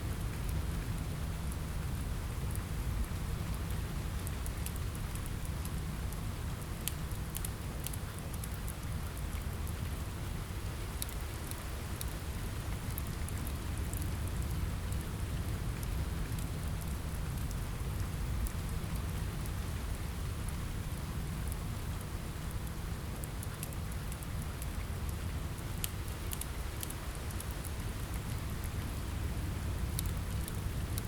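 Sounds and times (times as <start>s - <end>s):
rain on a window: 0.0s - 31.0s
wood fire crackling: 3.5s - 31.0s.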